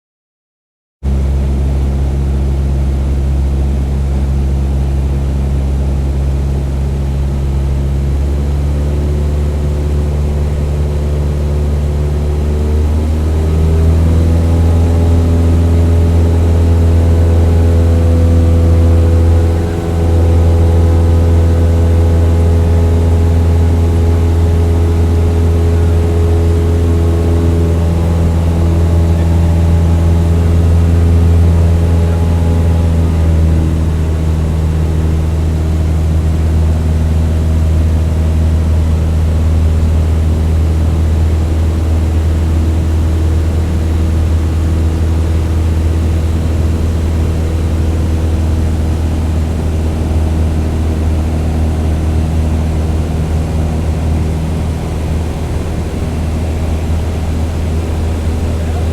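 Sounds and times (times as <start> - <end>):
airplane engine droning: 1.1 - 58.9.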